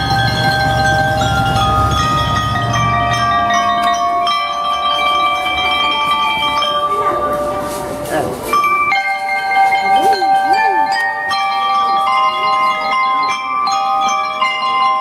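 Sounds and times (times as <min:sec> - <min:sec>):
glockenspiels playing melody: 0:00.0 - 0:15.0.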